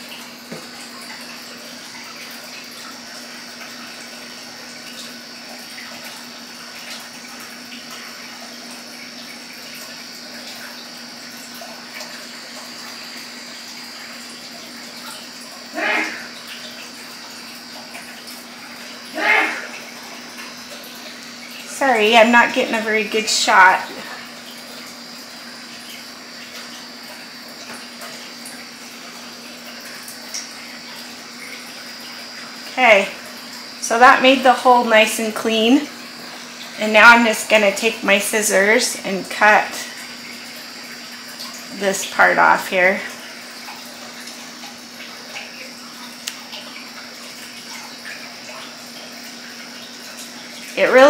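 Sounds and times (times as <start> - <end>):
electric fan running: 0.0 - 51.0.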